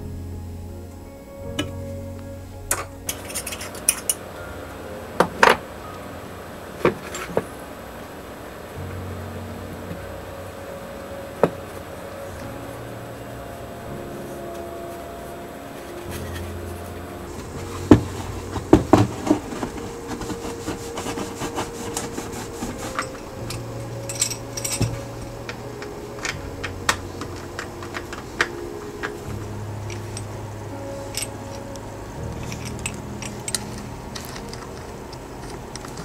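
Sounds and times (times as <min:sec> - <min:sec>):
soft background music: 0:00.0 - 0:36.0.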